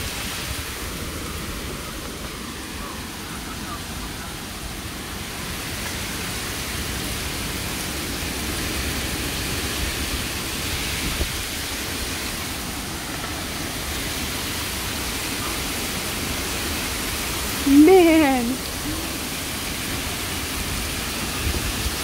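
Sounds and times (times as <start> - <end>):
heavy rain and strong wind: 0.0 - 22.0.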